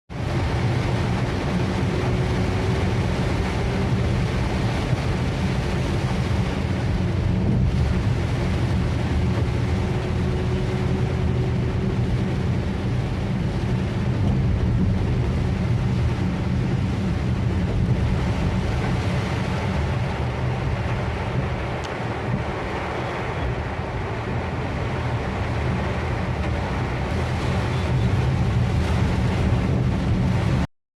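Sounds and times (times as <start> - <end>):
deep low rumble: 0.1 - 30.7
rain on car roof: 0.1 - 30.7.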